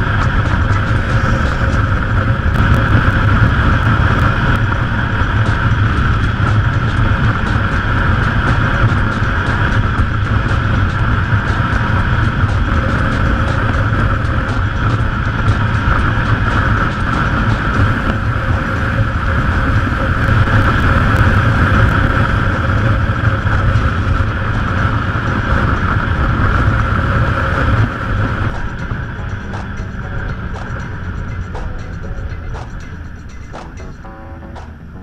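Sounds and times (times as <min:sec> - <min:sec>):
motorcycle engine: 0:00.0 - 0:35.0
road noise: 0:00.0 - 0:35.0
wind noise: 0:00.0 - 0:35.0.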